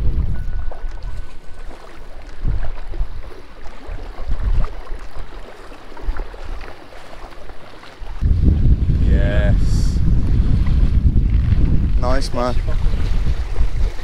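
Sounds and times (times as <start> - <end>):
wind buffeting microphone: 0.0 - 5.4, 8.0 - 14.0.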